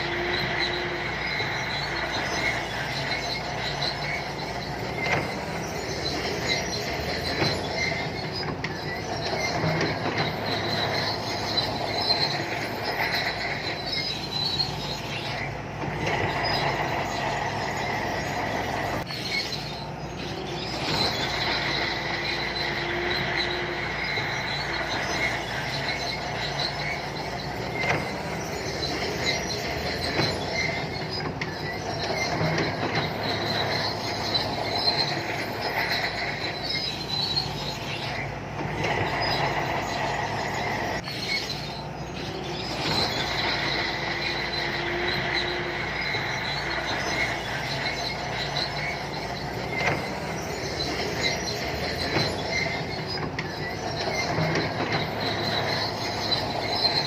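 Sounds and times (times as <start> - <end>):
bulldozer diesel engine droning: 0.0 - 57.0
steel tracks squealing and clattering: 0.0 - 57.0.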